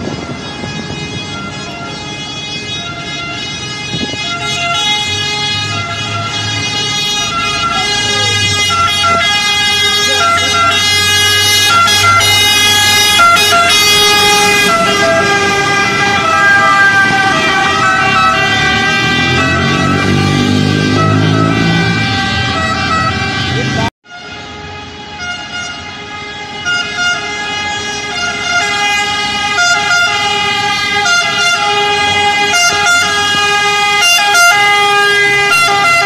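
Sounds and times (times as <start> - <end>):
truck engine rumble: 0.0 - 36.0
two-tone fire truck sirens: 0.0 - 36.0.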